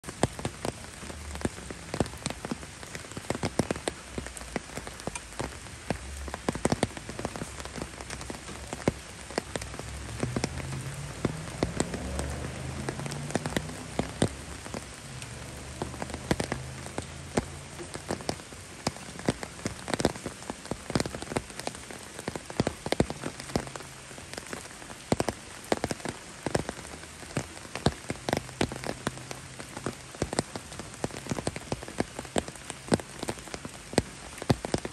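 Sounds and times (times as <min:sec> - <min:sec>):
raindrop taps: 0:00.0 - 0:34.9
steady rain: 0:00.0 - 0:34.9.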